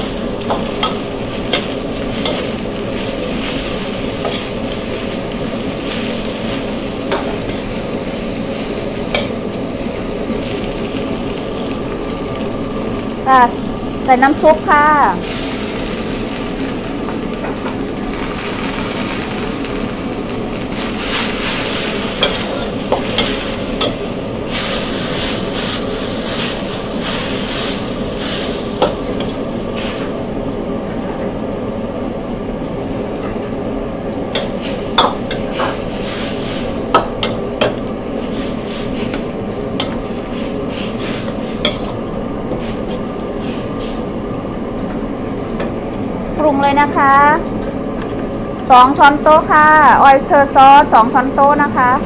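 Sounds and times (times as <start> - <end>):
food sizzling in a wok: 0.0 - 52.0.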